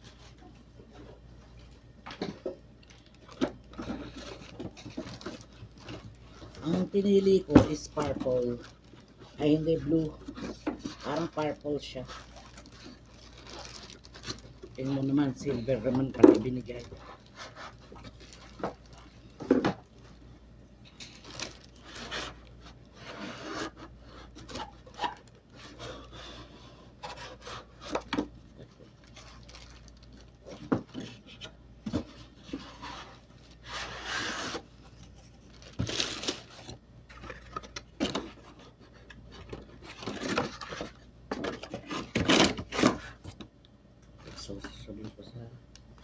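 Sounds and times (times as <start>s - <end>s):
plastic packaging crinkling: 1.5s - 20.2s, 20.8s - 43.4s.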